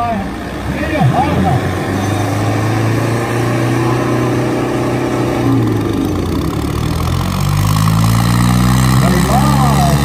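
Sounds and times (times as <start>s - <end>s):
diesel tractor engines under load: 0.0s - 10.0s.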